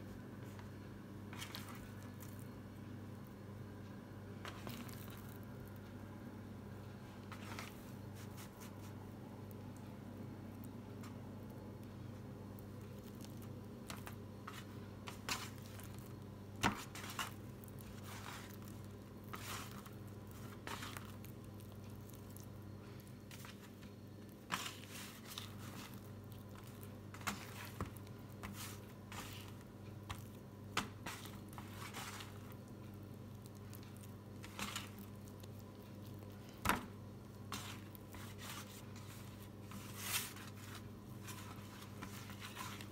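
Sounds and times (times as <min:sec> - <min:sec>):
steady low hum: 0:00.0 - 0:42.9
squishy dough handling: 0:00.3 - 0:03.4, 0:04.4 - 0:06.0, 0:06.9 - 0:42.9.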